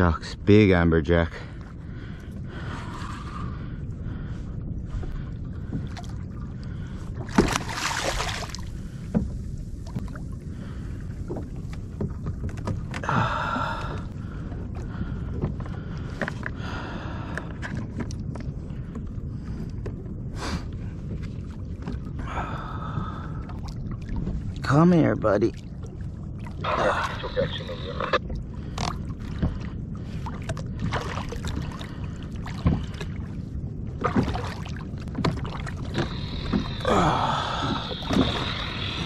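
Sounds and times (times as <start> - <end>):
low rumble of wind and sea: 0.0 - 39.0
water sloshing against kayak hull: 1.5 - 39.0.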